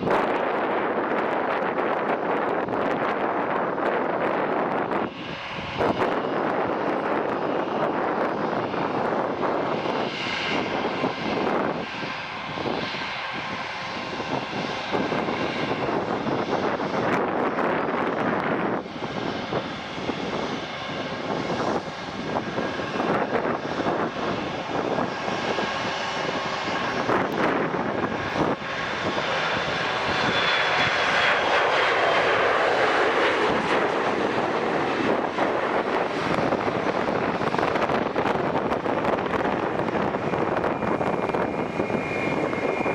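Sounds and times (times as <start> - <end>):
airplane engines running: 0.0 - 42.9.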